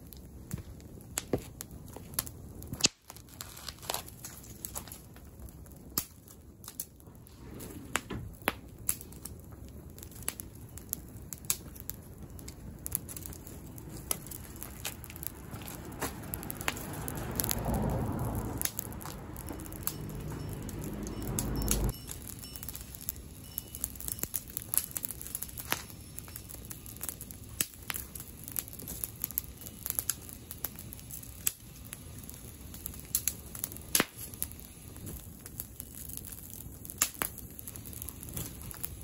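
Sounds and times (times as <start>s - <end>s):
bonfire crackling and popping: 0.0s - 39.0s
fire rushing noise: 0.0s - 39.0s.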